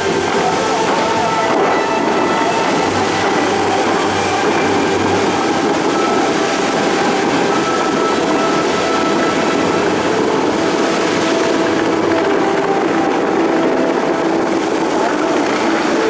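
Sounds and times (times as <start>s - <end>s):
rush of falling water: 0.0s - 16.0s.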